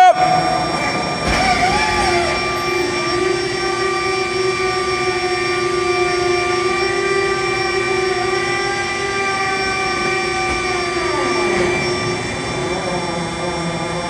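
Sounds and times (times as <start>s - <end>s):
hydraulic pumps whining: 0.0s - 14.0s.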